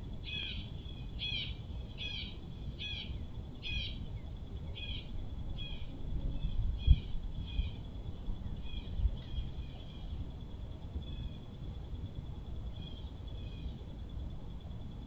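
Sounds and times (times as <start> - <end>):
faint high-pitched hum: 0.0 - 15.0
low outdoor rumble: 0.0 - 15.0.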